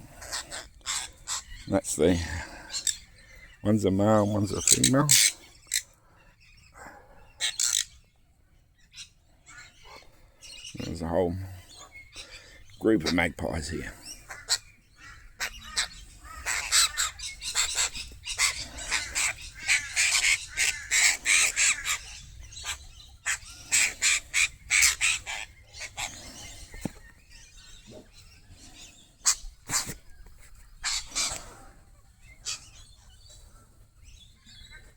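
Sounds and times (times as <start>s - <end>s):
magpies calling: 0.0s - 34.9s.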